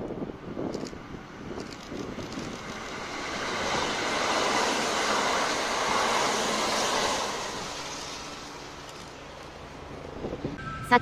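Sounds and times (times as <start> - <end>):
electric train passing: 0.1 - 11.0.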